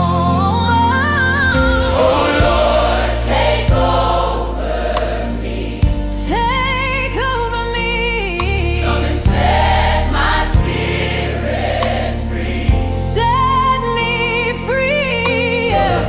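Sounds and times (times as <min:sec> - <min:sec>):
sustained bass notes: 0:00.0 - 0:16.0
wordless vocals with vibrato: 0:00.0 - 0:16.0
choir singing: 0:01.4 - 0:07.3, 0:08.3 - 0:16.0.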